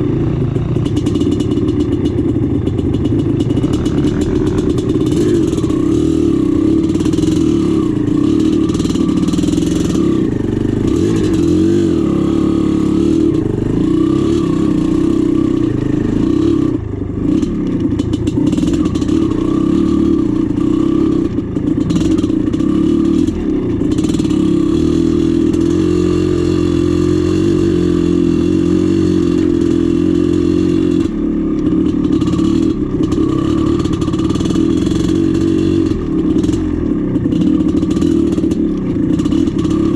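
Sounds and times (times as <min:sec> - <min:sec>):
clatter: 0:00.0 - 0:27.1, 0:27.8 - 0:39.9
two-stroke motorcycle engine revving: 0:00.0 - 0:39.9.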